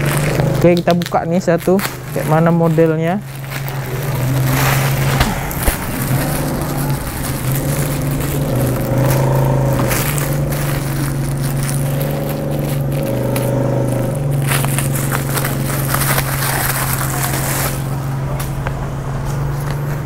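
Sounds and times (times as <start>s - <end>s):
plastic wrapping crinkling: 0.0s - 18.5s
loud low drone: 2.1s - 18.9s.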